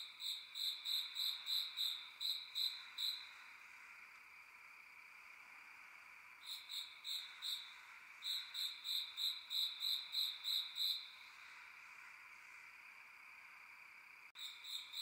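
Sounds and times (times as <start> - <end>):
insect chorus chirring: 0.0 - 15.0.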